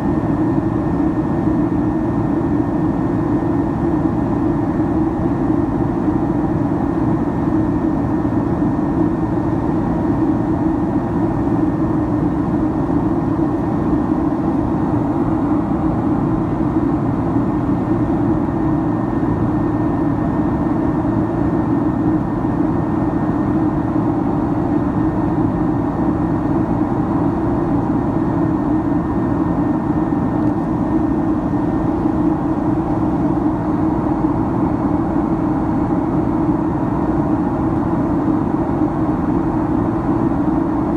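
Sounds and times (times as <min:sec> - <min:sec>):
aircraft cabin drone: 0:00.0 - 0:40.9.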